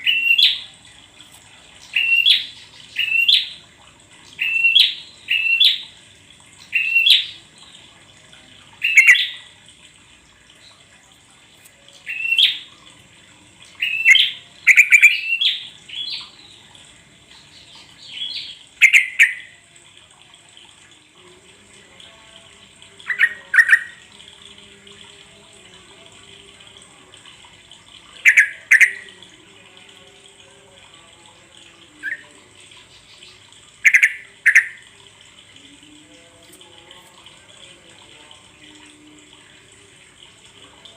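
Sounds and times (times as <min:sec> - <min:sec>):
bird bubbly call phrases: 0:00.0 - 0:11.0, 0:11.8 - 0:21.0, 0:21.9 - 0:40.9.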